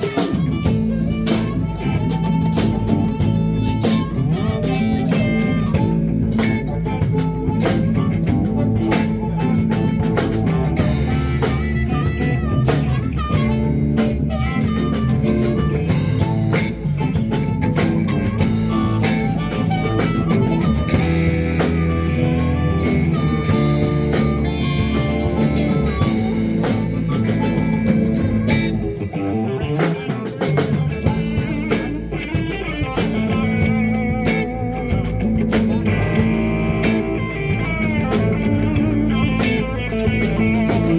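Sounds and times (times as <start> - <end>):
bass: 0.0 - 40.9
drum kit beat: 0.0 - 40.9
electric guitar lines: 0.0 - 40.9.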